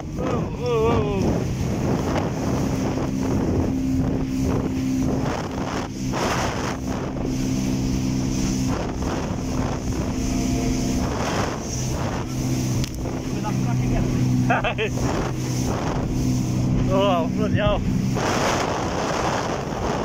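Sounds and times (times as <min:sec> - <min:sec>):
jet ski engine: 0:00.0 - 0:20.0
motorboat engine running: 0:00.0 - 0:20.0
water rushing past hull: 0:00.0 - 0:20.0
wind buffeting microphone: 0:00.0 - 0:20.0.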